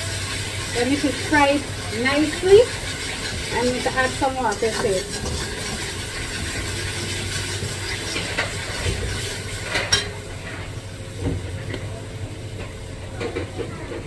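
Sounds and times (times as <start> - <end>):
curry sizzling in pot: 0.0 - 11.6.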